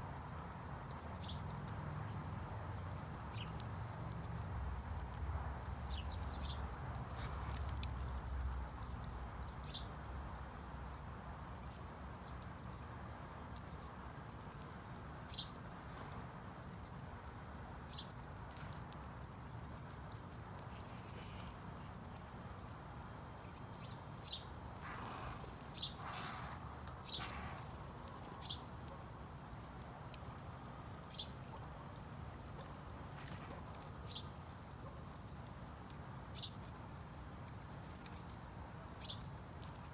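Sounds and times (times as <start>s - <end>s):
crickets chirping: 0.0s - 39.9s
high insect trill: 0.0s - 39.9s.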